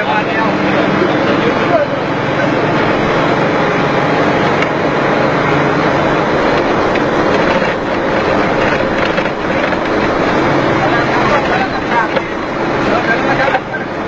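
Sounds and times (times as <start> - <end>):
bus engine through rasping exhaust: 0.0 - 14.0.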